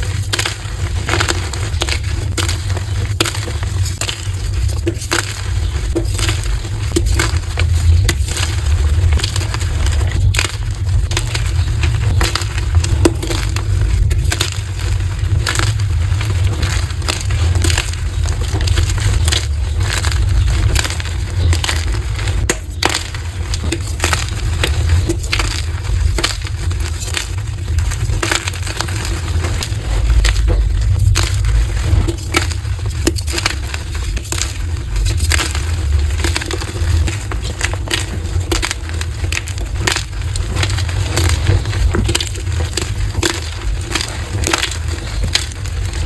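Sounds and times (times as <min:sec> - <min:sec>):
chalk crunching and crackling: 0:00.0 - 0:46.0.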